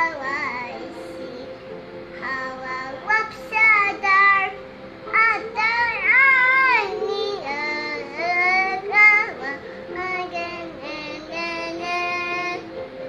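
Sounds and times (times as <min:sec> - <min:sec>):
girl singing: 0:00.0 - 0:01.6, 0:02.2 - 0:12.7.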